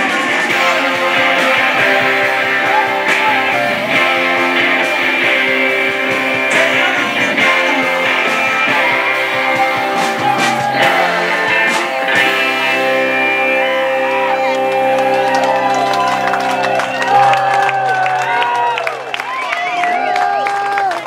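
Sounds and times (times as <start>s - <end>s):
live rock band playing: 0.0s - 18.8s
electric bass: 0.0s - 18.9s
electric guitars: 0.0s - 21.0s.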